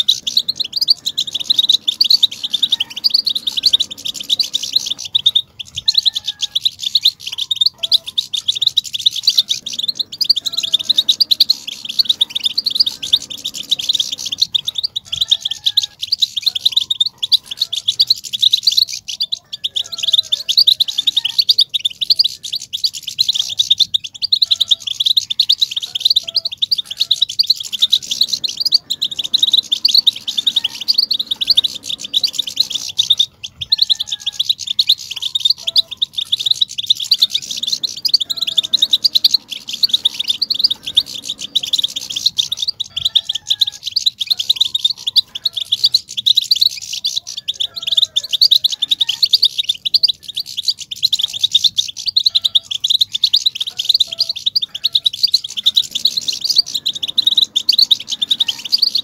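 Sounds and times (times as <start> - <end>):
goldfinches twittering and singing: 0.0 - 59.0.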